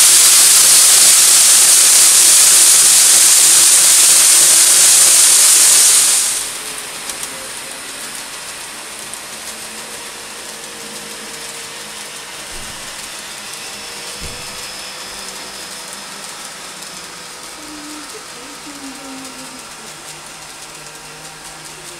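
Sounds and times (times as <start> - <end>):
loud steady hiss: 0.0 - 21.9
model train wheels rolling on rails: 0.0 - 21.9
thin motor whine: 0.0 - 21.9.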